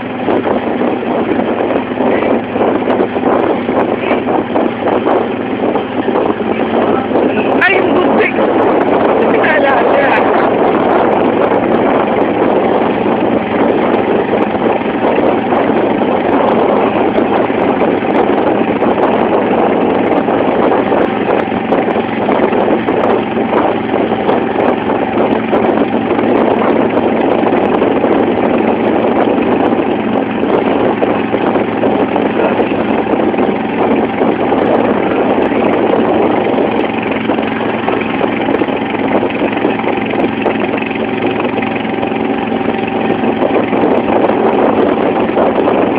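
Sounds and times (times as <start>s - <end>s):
boat engine droning: 0.0s - 45.9s
water rushing and splashing: 0.0s - 45.9s.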